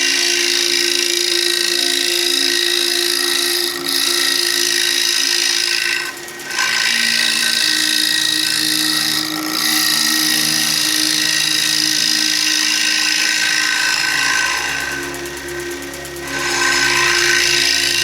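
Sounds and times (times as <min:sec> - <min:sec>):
turning tool scraping wood: 0:00.0 - 0:15.2
lathe motor hum: 0:00.0 - 0:18.0.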